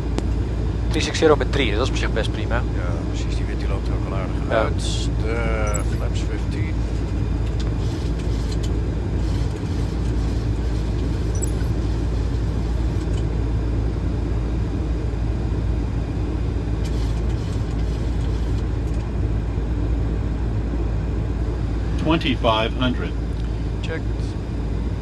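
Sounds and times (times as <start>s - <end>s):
cockpit airflow and engine hum: 0.0s - 25.0s.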